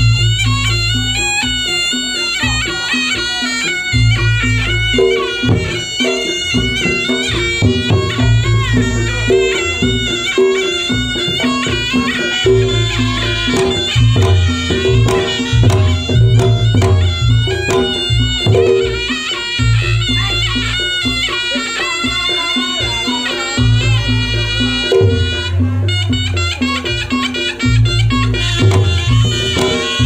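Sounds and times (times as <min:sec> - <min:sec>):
drumming: 0:00.0 - 0:30.0
shrill shawm melody: 0:00.0 - 0:30.0.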